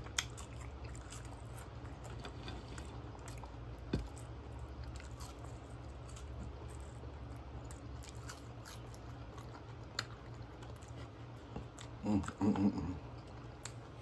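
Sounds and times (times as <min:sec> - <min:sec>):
chewing fries: 0:00.0 - 0:14.0
steady low hum: 0:00.0 - 0:14.0.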